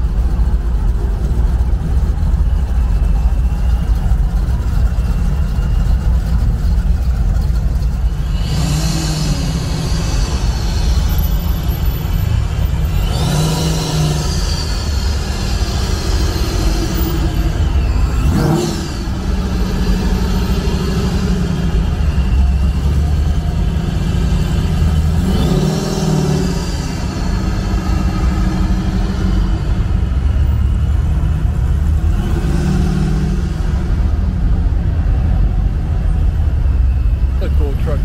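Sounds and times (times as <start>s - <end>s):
car engine rumbling and revving: 0.0s - 38.0s
pickup truck revving: 0.0s - 38.0s.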